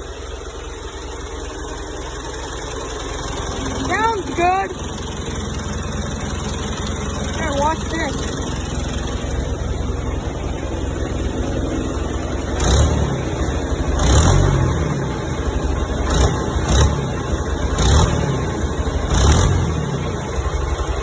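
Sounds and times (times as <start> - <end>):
diesel tractor engine revving: 0.0 - 21.0.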